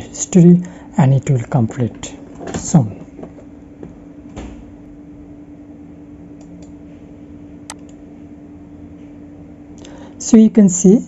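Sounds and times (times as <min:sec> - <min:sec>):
low electrical hum and hiss: 0:00.0 - 0:11.0.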